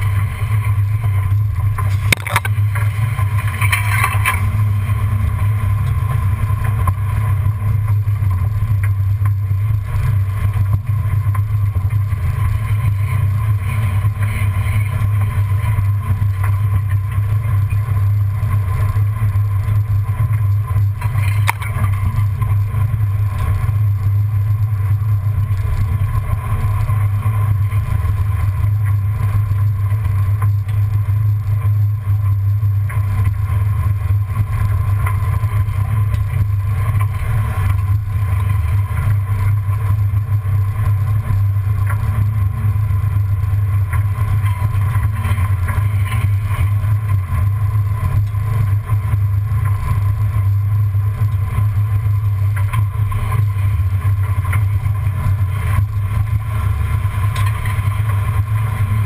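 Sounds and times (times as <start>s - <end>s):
faint ticks: 0.0s - 59.0s
low engine and drivetrain drone: 0.0s - 59.0s.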